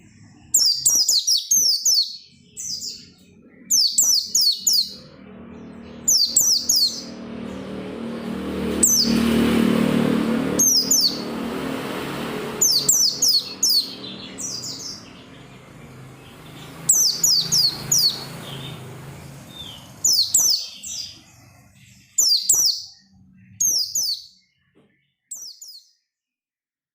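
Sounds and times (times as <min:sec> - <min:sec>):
bird chirping: 0:00.0 - 0:26.2.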